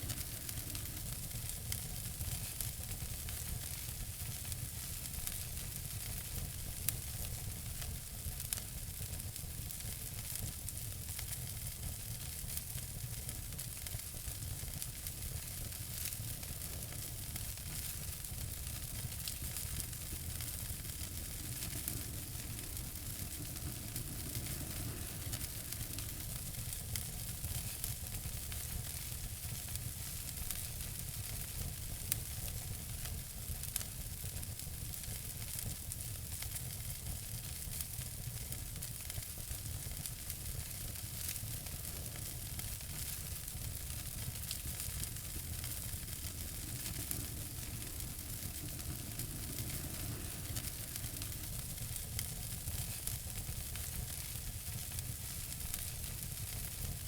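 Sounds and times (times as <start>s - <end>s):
wood fire crackling: 0.0s - 57.0s
sharp pops of fire: 9.8s - 33.9s, 34.5s - 57.0s.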